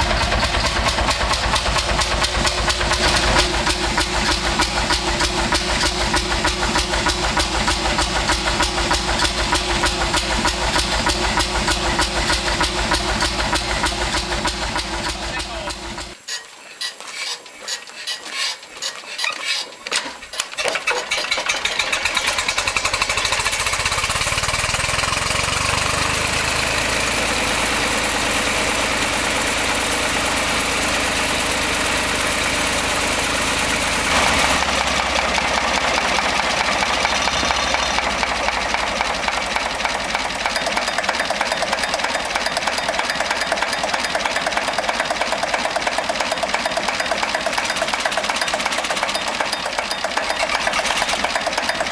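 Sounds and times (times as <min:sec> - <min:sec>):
diesel engine starting and running: 0:00.0 - 0:16.2, 0:19.9 - 0:51.9.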